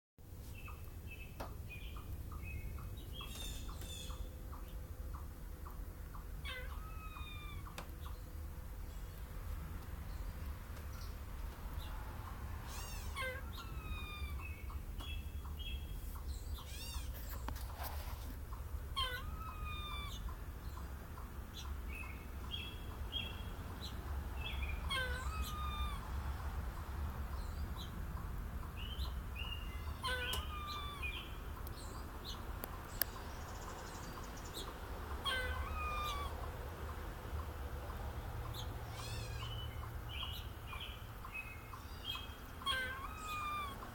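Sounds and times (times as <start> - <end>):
squirrel calling: 0.6 - 9.2, 10.1 - 17.6, 18.5 - 43.9.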